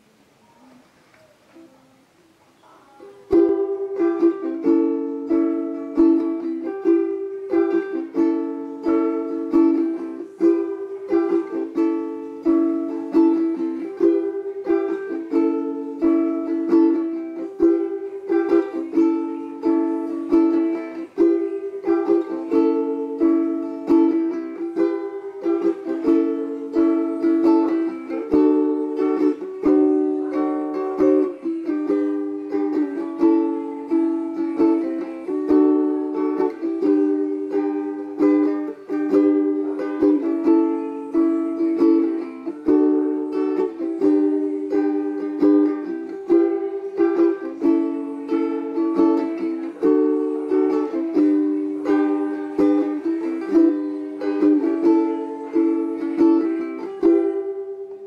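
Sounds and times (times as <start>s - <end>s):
ukulele strumming: 0.0s - 58.0s.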